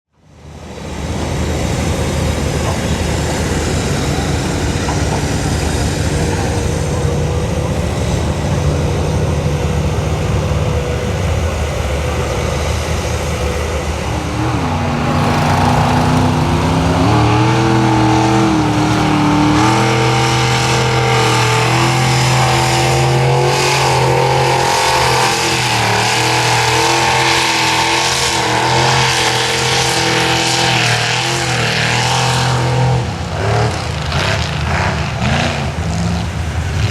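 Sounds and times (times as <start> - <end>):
truck engine revving high: 0.3 - 36.9.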